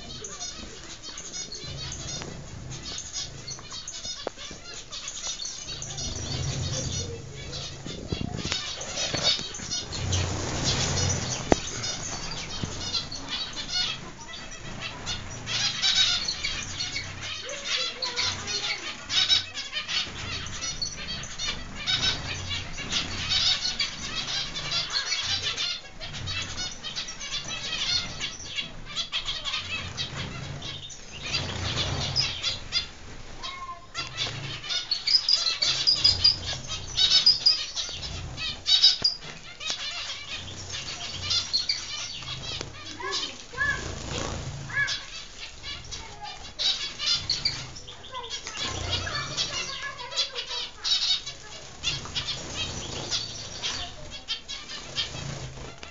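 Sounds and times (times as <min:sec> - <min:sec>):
finches chirping: 0:00.0 - 0:55.9
wings flapping: 0:00.0 - 0:55.9.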